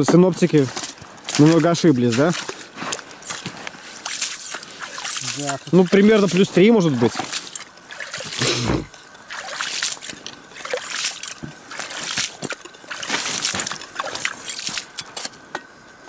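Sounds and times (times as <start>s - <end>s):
ice skimmer scooping slush and water: 0.0s - 15.4s.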